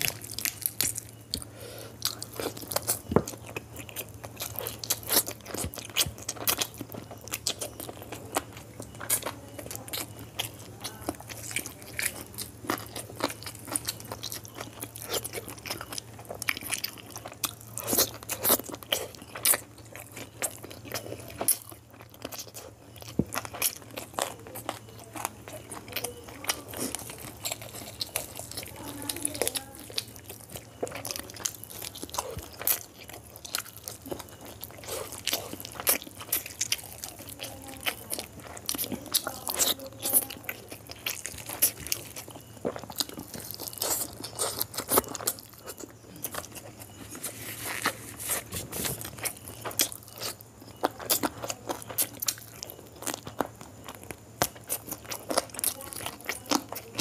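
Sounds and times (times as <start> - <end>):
chewing food: 0.0 - 57.0.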